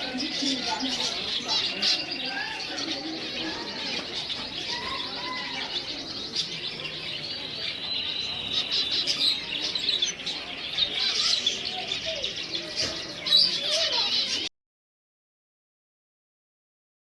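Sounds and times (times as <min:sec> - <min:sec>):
small birds chirping: 0:00.0 - 0:14.5.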